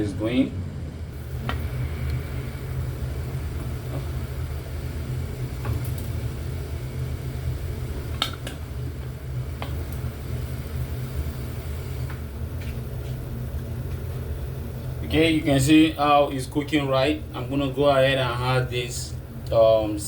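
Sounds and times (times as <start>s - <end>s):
gas stove burner rumble: 0.0s - 20.0s.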